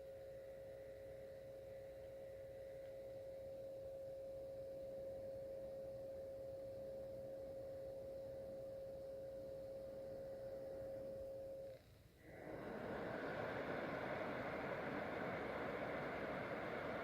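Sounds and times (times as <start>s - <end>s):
projector cooling fan whine: 0.0s - 17.0s.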